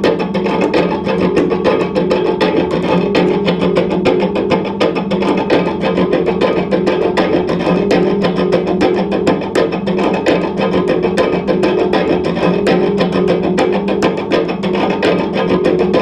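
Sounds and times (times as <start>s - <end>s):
cello struck and plucked: 0.0s - 16.0s
feedback hum: 0.0s - 16.0s.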